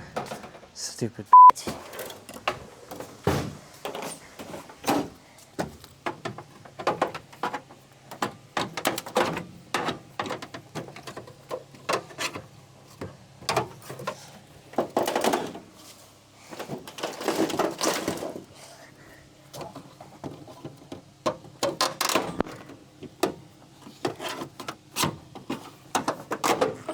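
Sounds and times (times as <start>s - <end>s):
knocks and clatter of car parts: 0.0s - 0.8s, 1.6s - 18.6s, 19.5s - 26.9s.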